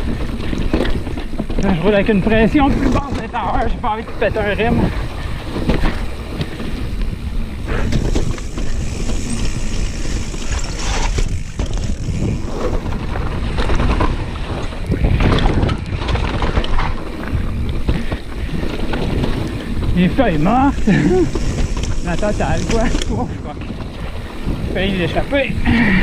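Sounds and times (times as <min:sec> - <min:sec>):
bicycle tyres rolling on trail: 0:00.0 - 0:26.0
bike knocking and rattling: 0:00.0 - 0:26.0
wind buffeting microphone: 0:00.0 - 0:26.0.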